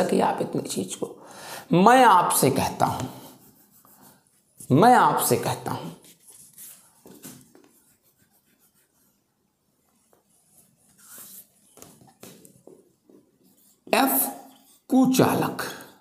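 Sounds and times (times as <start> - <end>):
faint scratchy writing strokes: 2.7 - 15.7.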